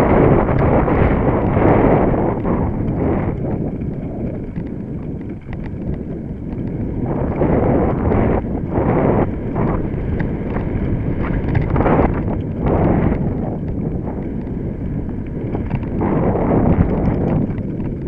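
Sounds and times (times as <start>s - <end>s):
mountain bike rattling: 0.0s - 18.0s
tyre rumble: 0.0s - 18.0s
wind buffeting microphone: 0.0s - 18.0s.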